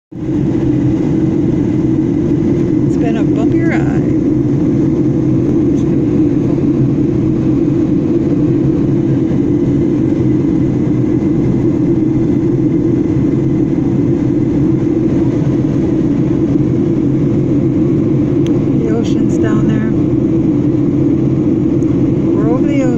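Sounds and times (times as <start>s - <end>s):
airliner cabin engine drone: 0.1s - 22.9s.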